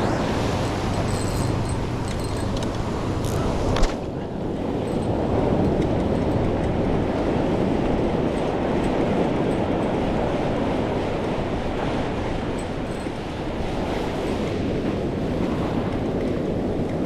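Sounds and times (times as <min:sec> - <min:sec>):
ocean surf rushing: 0:00.0 - 0:15.9
wind noise on microphone: 0:00.0 - 0:17.0.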